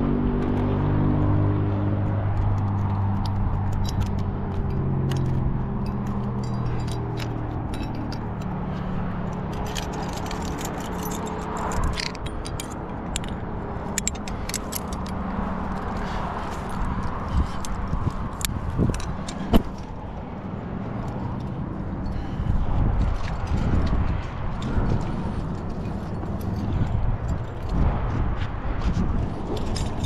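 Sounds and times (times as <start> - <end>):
road traffic drone: 0.0 - 30.0
climbing gear jangling: 2.1 - 30.0.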